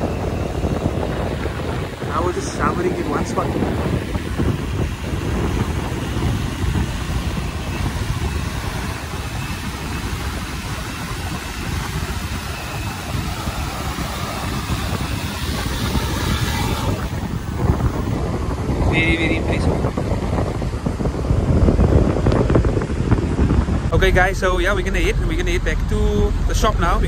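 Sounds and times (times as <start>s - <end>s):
drone rotors: 0.0s - 27.0s
wind buffeting microphone: 0.0s - 27.0s.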